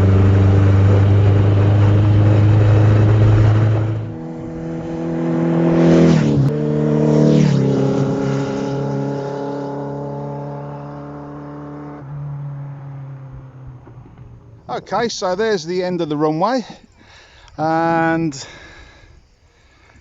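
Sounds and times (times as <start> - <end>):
car engine while driving: 0.0 - 16.2.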